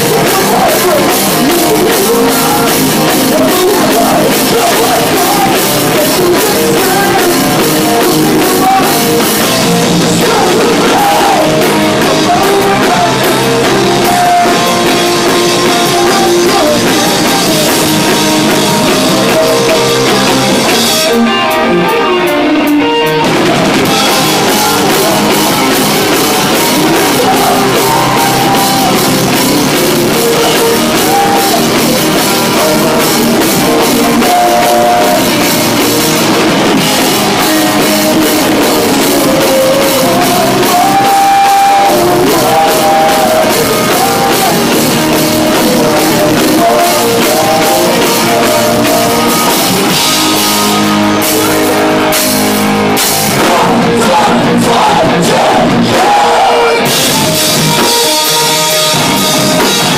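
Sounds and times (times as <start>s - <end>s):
live rock band playing: 0.0s - 59.9s
person singing into a microphone: 0.0s - 59.9s.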